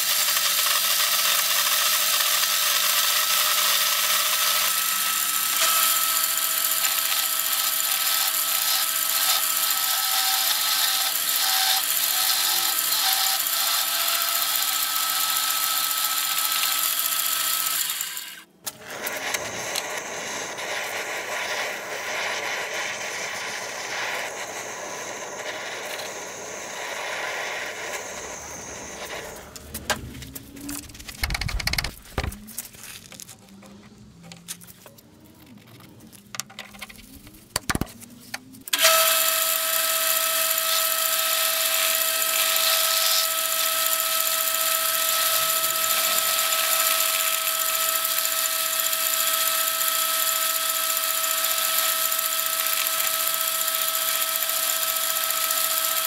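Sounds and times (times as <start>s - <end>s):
machine tool whining: 4.6s - 56.0s.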